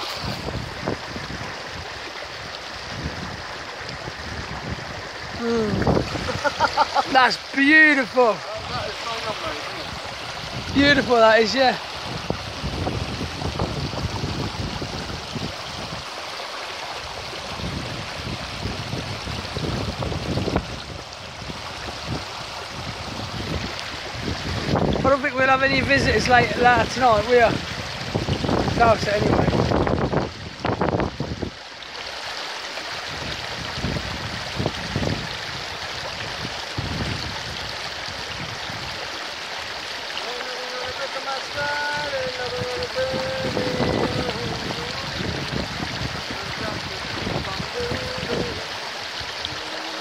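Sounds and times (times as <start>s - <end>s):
stream rushing over boulders: 0.0s - 50.0s.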